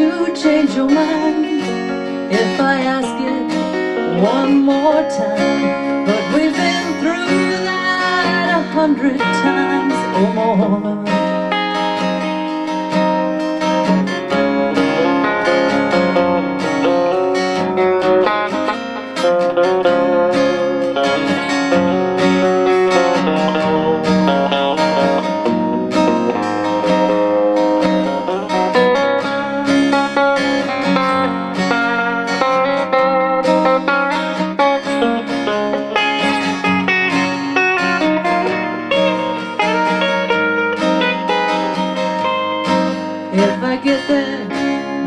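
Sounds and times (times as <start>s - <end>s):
picked guitar melody: 0.0s - 45.0s
strummed guitar chords: 0.0s - 45.0s.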